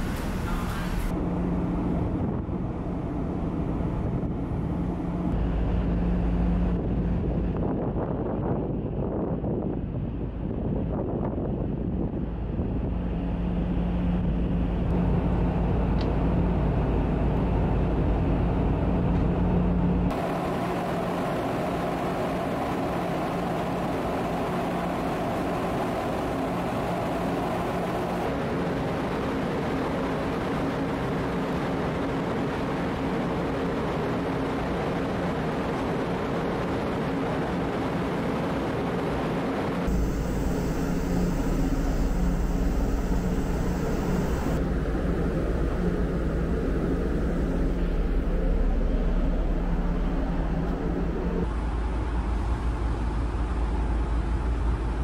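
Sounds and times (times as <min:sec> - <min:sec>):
ship engines droning: 0:00.0 - 0:55.0.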